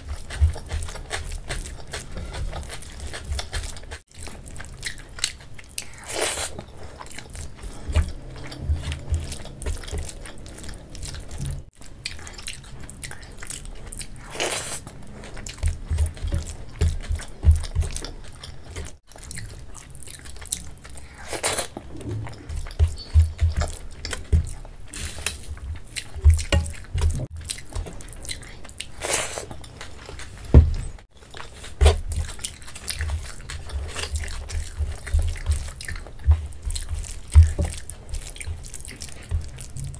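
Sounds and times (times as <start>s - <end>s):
chewing with wet mouth sounds: 0.0s - 39.9s.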